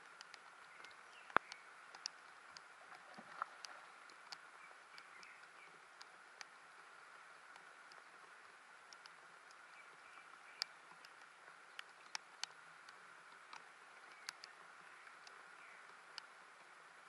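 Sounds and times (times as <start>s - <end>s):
faint steady hiss: 0.0s - 17.0s
raindrops ticking: 0.0s - 17.0s.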